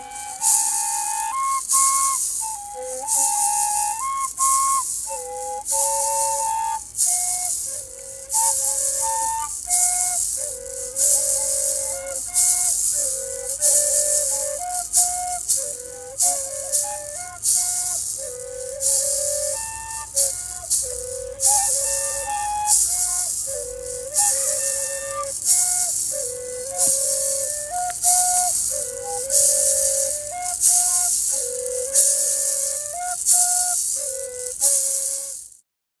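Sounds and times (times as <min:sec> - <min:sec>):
cane flutes playing: 0:00.0 - 0:35.6
maraca shaking: 0:00.0 - 0:35.6.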